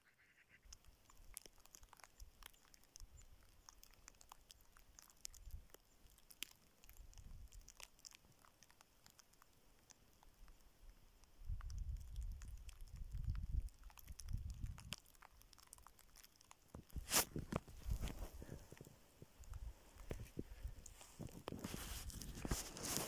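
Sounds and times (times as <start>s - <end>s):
faint clicks and crackles: 0.6s - 23.0s.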